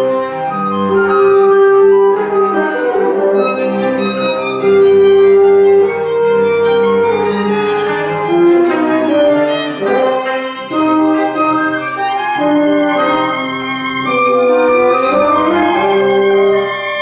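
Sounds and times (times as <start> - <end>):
classical chamber ensemble: 0.0 - 17.0
violin: 0.0 - 17.0.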